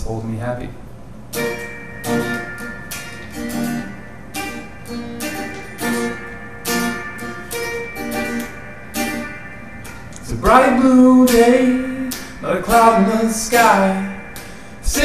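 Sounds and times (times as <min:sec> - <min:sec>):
acoustic guitar strumming chords: 0:01.2 - 0:15.0.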